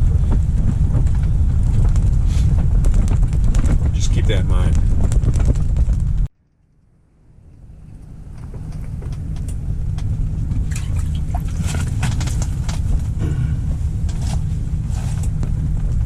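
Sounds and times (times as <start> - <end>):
wind buffeting microphone: 0.0 - 6.3, 7.2 - 16.0.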